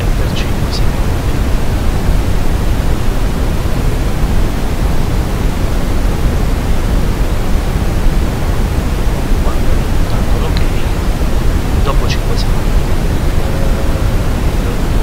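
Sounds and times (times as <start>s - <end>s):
steady hiss-like noise: 0.0s - 15.0s.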